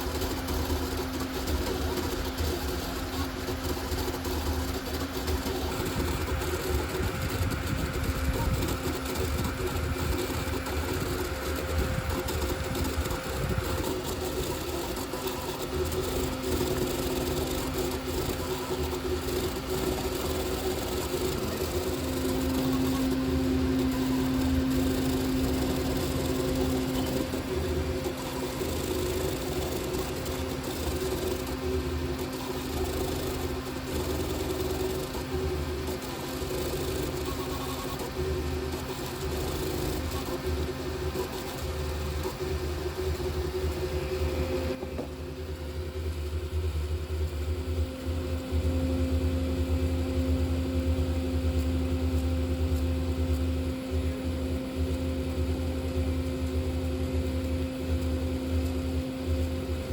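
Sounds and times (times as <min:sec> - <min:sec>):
constant whir: 0:00.0 - 0:59.9
printer motors humming: 0:00.0 - 0:59.9.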